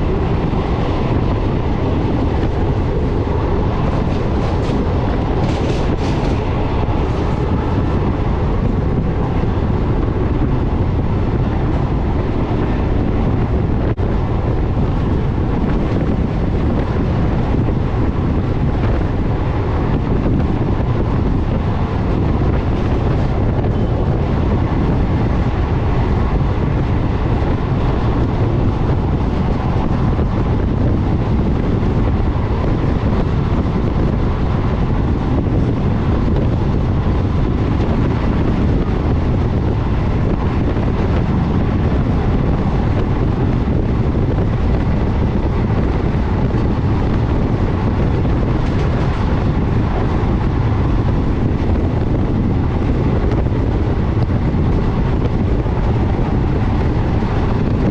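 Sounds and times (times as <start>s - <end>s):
train wheels rumbling on track: 0.0s - 57.9s.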